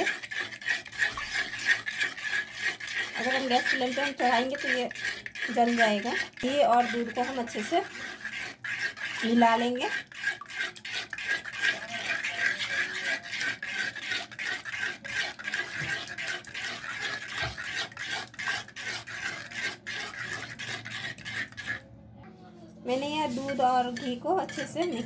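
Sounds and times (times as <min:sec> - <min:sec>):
metal spoon scraping metal pan: 0:00.0 - 0:21.8, 0:22.9 - 0:25.0.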